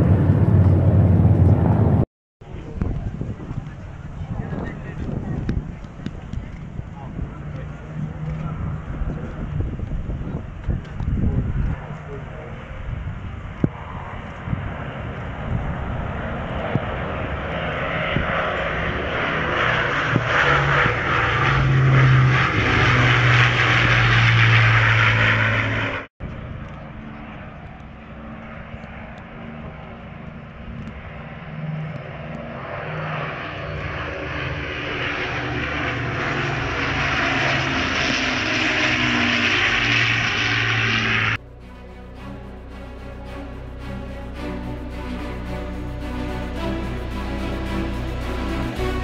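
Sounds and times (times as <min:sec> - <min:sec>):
piston aircraft engines droning: 0:00.0 - 0:49.0.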